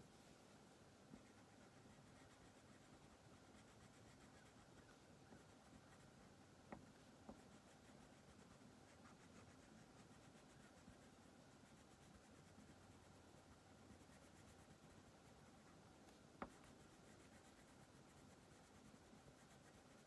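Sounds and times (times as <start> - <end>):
crayon rubbing on paper: 1.1 - 6.3, 7.3 - 15.8, 16.4 - 20.0.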